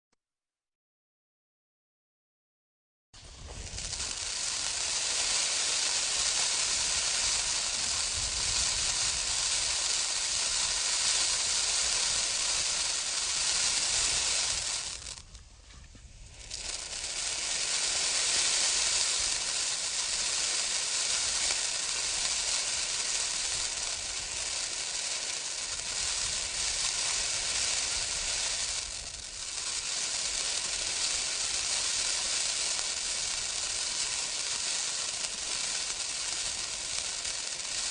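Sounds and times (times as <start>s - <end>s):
firework fountain crackling and hissing: 3.2s - 37.9s.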